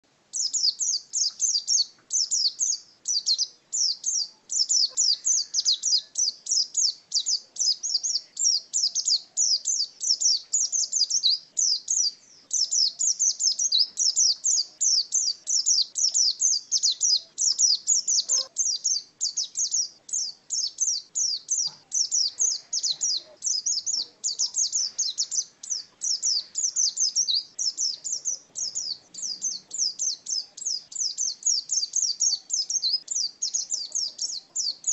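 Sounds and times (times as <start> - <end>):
bird twittering song: 0.3 - 34.9.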